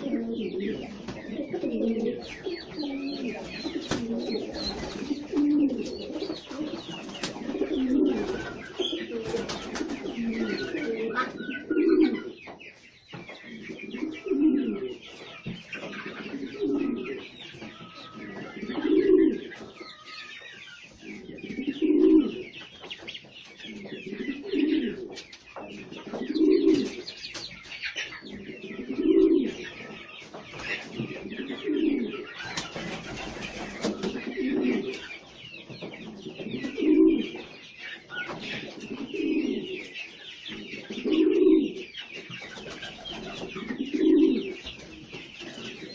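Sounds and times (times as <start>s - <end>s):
pigeons cooing: 0.0s - 12.6s, 13.3s - 45.9s
small birds chirping: 0.0s - 45.9s.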